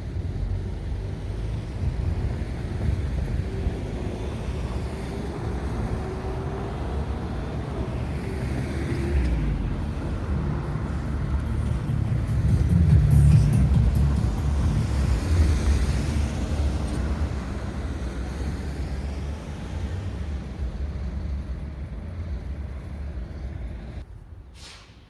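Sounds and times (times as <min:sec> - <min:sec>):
vehicle passing by: 0:02.6 - 0:24.0.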